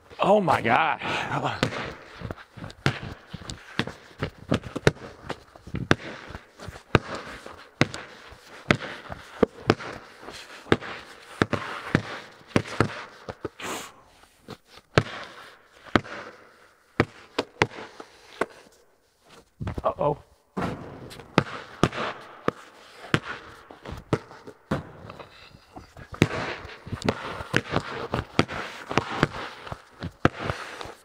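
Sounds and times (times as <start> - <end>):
basketballs bouncing on concrete: 0.8 - 13.6, 14.9 - 18.7, 20.6 - 31.0
ball dribbling: 1.3 - 13.6, 14.9 - 16.4, 17.0 - 18.6, 20.7 - 31.0.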